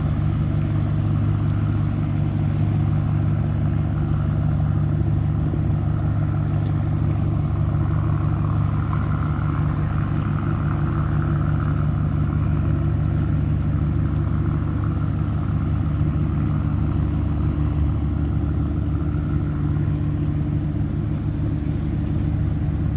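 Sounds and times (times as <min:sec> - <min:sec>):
diesel engine droning: 0:00.0 - 0:22.9.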